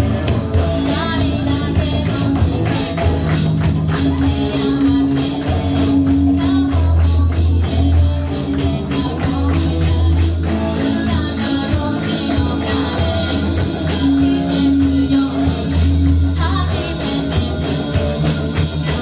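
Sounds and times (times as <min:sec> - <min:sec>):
drum kit beat: 0:00.0 - 0:19.0
rock band music: 0:00.0 - 0:19.0.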